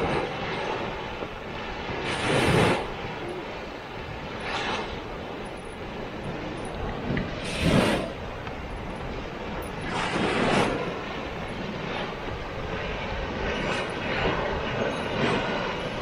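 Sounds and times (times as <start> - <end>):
boiling pool churning and hissing: 0.0 - 16.0.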